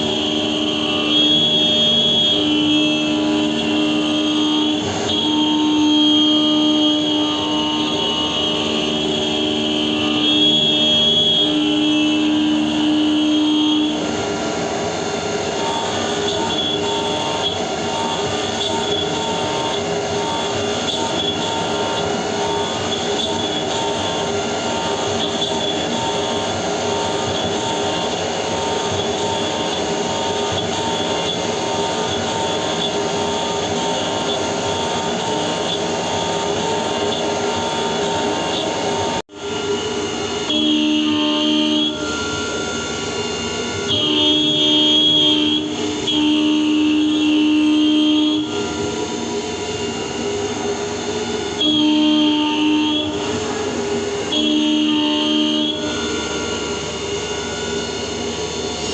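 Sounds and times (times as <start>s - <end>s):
milling machine whining and grinding: 0.0s - 58.9s.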